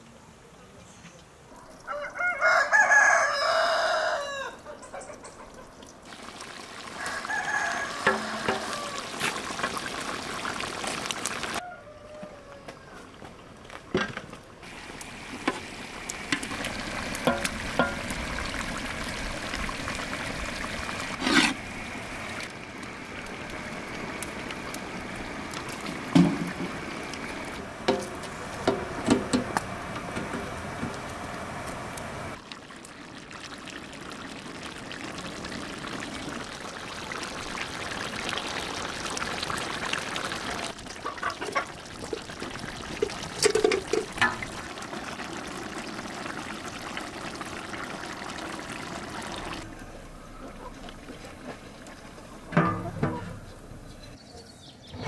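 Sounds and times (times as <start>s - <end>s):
onions frying in oil: 5.9s - 11.6s, 14.6s - 53.9s.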